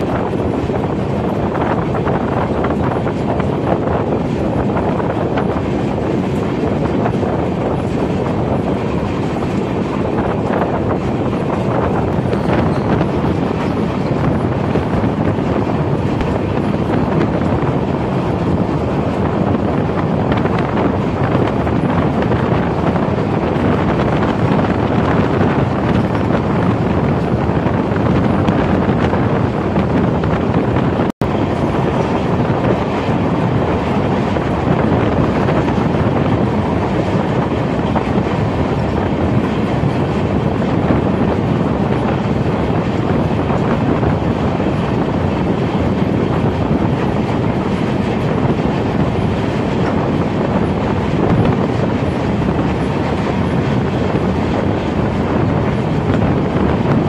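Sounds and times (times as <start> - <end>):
train wheels rumbling on rail: 0.0 - 57.0
wind on microphone: 0.0 - 57.0.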